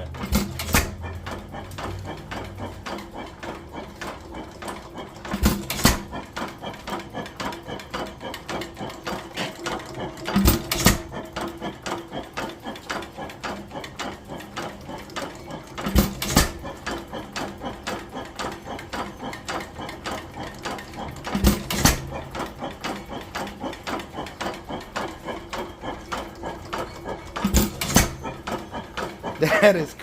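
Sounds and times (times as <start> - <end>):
small engine ticking: 0.0 - 30.0.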